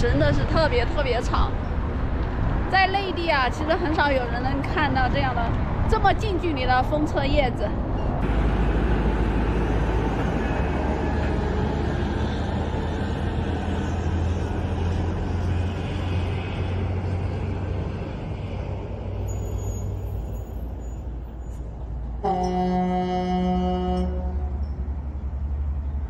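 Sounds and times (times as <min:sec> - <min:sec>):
road noise: 0:00.0 - 0:26.0
vehicle engine rumble: 0:00.0 - 0:26.0.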